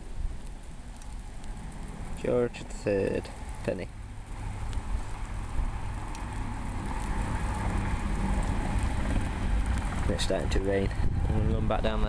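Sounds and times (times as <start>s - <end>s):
light rain hissing: 0.0s - 12.0s
wind buffeting microphone: 0.0s - 12.0s.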